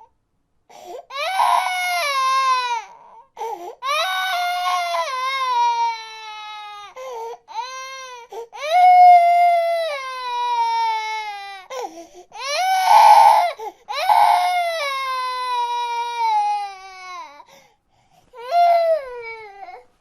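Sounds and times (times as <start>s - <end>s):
baby crying: 1.0s - 17.5s, 18.4s - 19.8s.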